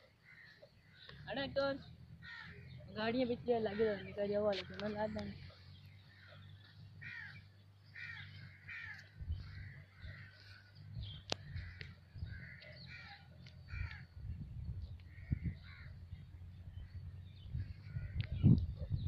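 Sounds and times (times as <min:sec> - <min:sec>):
birds calling harshly: 0:00.0 - 0:19.0
low rumble: 0:00.8 - 0:19.0.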